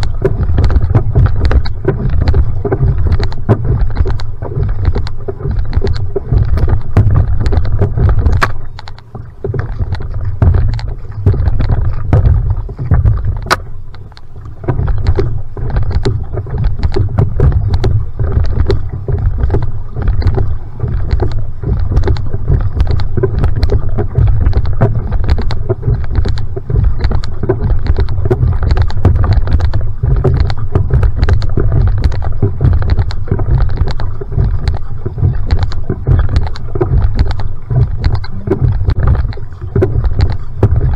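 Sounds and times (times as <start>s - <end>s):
paddle splashing: 0.0s - 40.9s
water slapping against hull: 0.0s - 40.9s
wind rumble on microphone: 0.0s - 40.9s.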